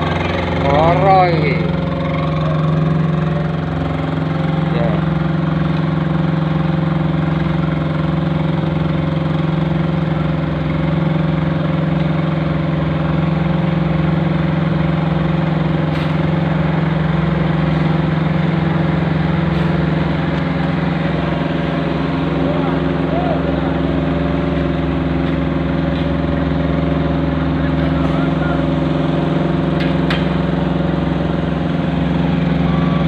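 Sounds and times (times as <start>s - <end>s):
machine engine droning: 0.0s - 33.0s.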